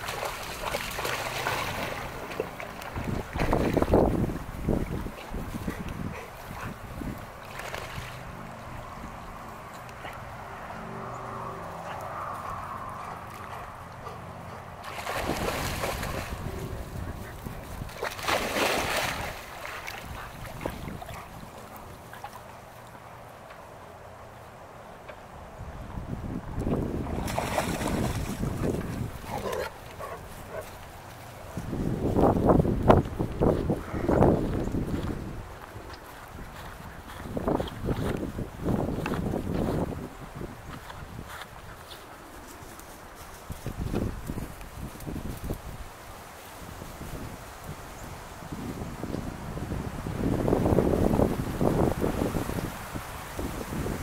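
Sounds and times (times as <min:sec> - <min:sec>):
wind buffeting microphone: 0:00.0 - 0:10.6, 0:11.6 - 0:22.4, 0:25.5 - 0:46.0, 0:46.6 - 0:54.0
water splashing and lapping: 0:00.0 - 0:23.7, 0:26.6 - 0:47.8.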